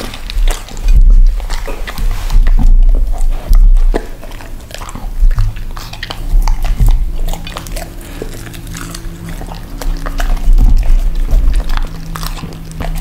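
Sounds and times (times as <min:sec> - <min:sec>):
dog chewing pastry: 0:00.0 - 0:13.0
dog licking its lips: 0:00.0 - 0:13.0.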